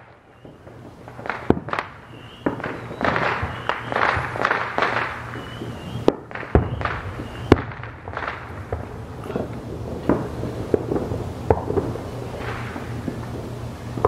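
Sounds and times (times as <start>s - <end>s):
firework shells bursting: 0.0s - 14.0s.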